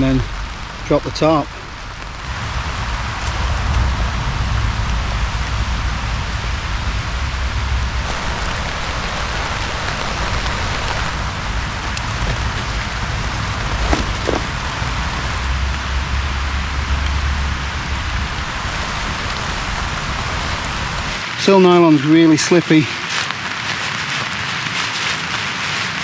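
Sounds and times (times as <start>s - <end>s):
rain on a tarp: 0.0s - 26.0s.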